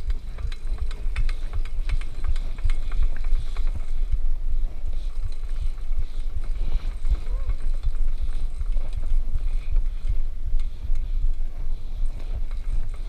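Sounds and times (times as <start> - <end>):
light clicks and ticks: 0.0 - 13.0
wind rumbling on microphone: 0.0 - 13.0.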